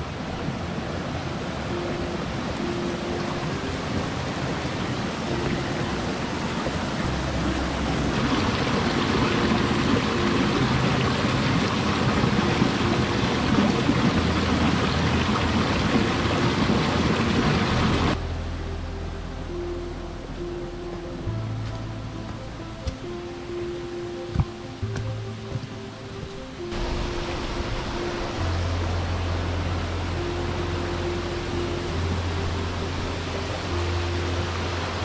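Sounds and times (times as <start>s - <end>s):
creek water rushing: 0.0s - 35.0s
soft background music: 0.0s - 35.0s.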